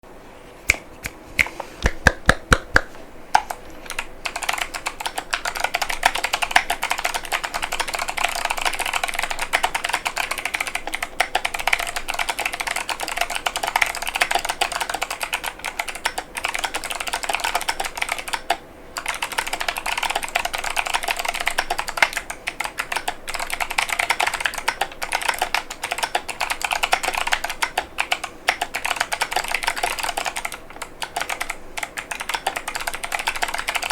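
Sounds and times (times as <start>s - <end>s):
clicky mechanical keyboard typing: 1.8s - 33.9s.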